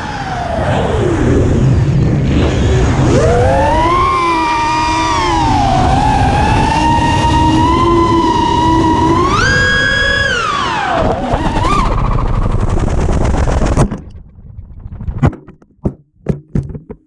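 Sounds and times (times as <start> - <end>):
drone motors whining: 0.0 - 15.2
low rumble of wind: 0.0 - 16.2
frame vibration rumble: 1.6 - 17.0.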